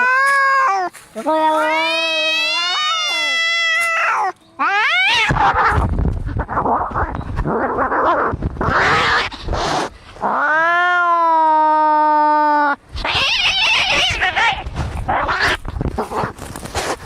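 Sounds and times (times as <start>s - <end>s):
cats fighting: 0.0s - 11.7s, 12.6s - 17.0s.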